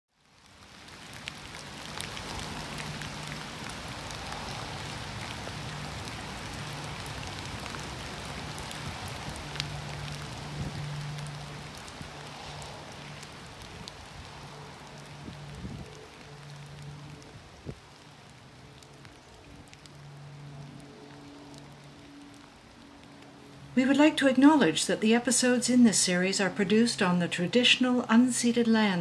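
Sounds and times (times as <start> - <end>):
rain-like hiss: 0.1 - 29.0.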